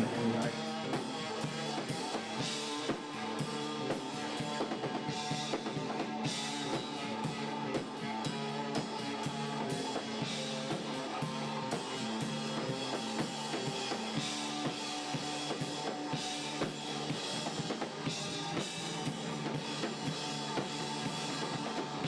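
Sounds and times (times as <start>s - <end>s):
bass: 0.0s - 22.0s
drum kit beat: 0.0s - 22.0s
guitar: 0.0s - 22.0s.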